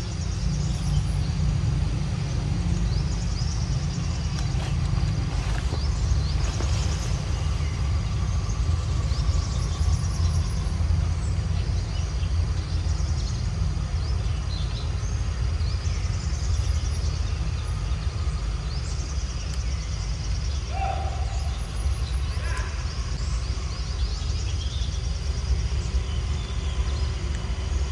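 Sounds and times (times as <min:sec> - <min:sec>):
birds chirping and trilling: 0:00.0 - 0:27.9.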